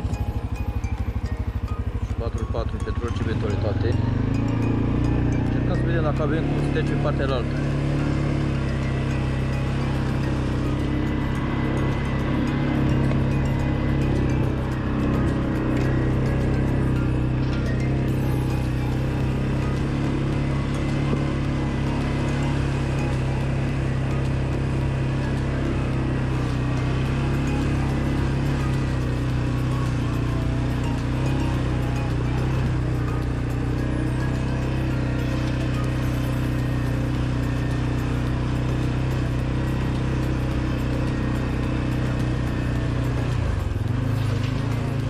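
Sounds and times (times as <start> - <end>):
engine running steady low hum: 0.0 - 45.0.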